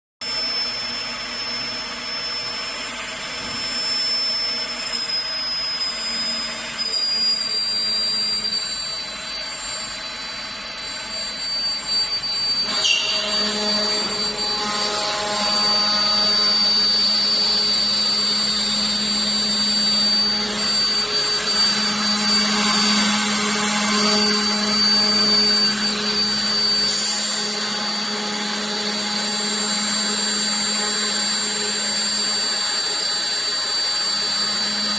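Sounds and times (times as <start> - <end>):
cutter working wood: 0.2 - 34.9
router spindle whine: 0.2 - 34.9.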